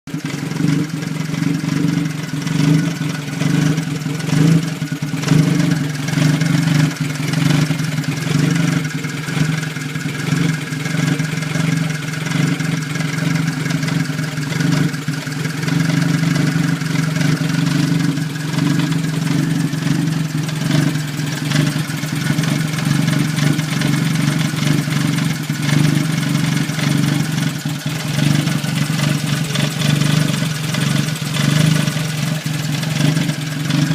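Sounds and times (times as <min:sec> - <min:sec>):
car engine idling roughly: 0:00.0 - 0:33.9.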